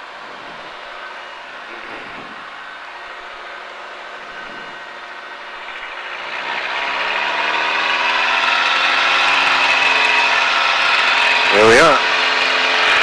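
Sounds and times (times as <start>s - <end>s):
airplane engine and propeller: 0.0s - 13.0s.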